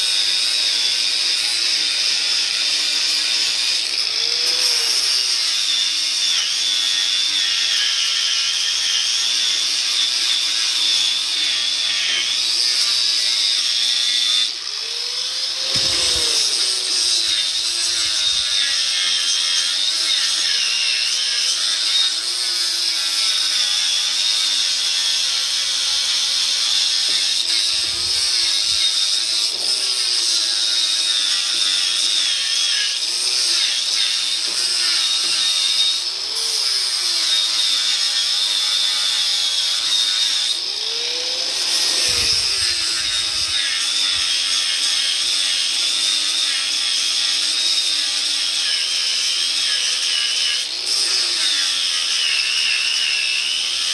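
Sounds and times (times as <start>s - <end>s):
angle grinder grinding steel: 0.0s - 53.9s.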